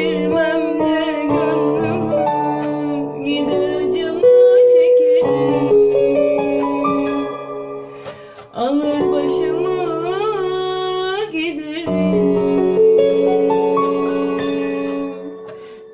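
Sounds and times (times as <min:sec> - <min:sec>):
electronic keyboard melody: 0:00.0 - 0:15.9.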